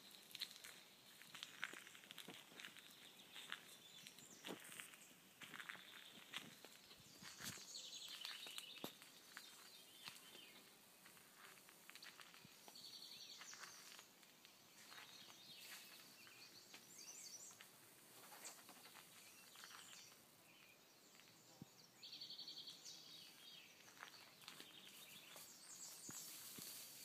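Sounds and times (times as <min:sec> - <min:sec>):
songbirds calling: 0:00.0 - 0:27.0.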